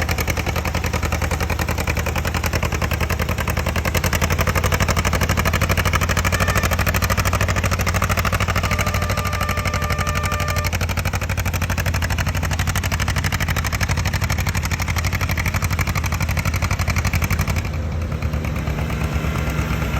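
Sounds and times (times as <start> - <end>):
tractor engine exhaust pulses: 0.0 - 19.9.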